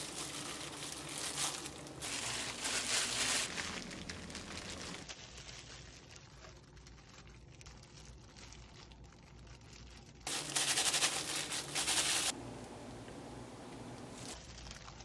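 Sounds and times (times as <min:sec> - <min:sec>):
gloves crinkling scooping rice: 0:00.0 - 0:12.4, 0:14.0 - 0:15.0
plastic gloves rustling: 0:00.0 - 0:13.1, 0:13.8 - 0:15.0.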